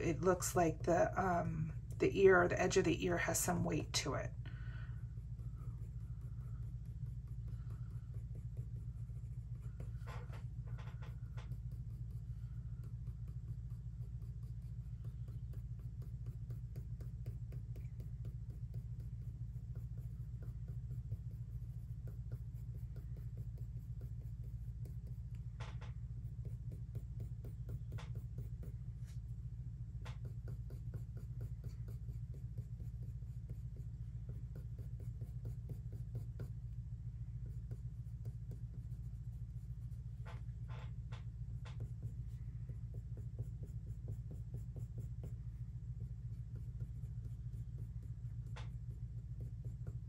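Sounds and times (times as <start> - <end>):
pencil scratching on paper: 0.0 - 50.0
steady low hum: 0.0 - 50.0.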